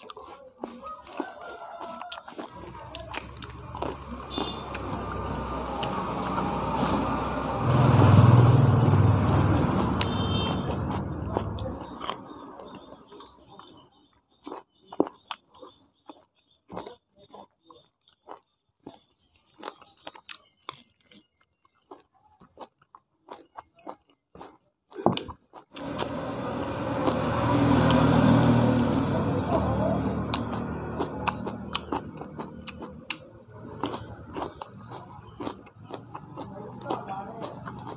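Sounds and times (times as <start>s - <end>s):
close chewing and mouth clicks: 0.0s - 7.6s, 9.4s - 37.9s.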